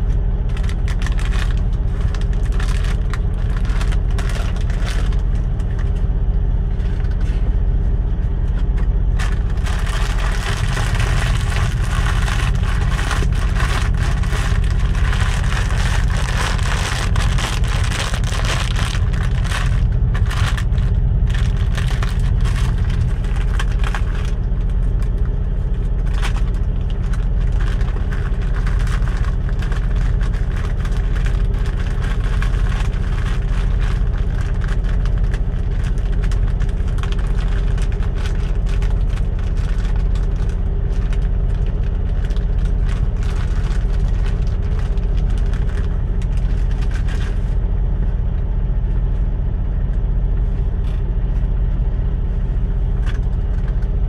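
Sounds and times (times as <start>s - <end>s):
diesel truck engine idling: 0.0s - 54.0s
snack bag crinkling: 0.5s - 5.8s, 8.7s - 47.5s.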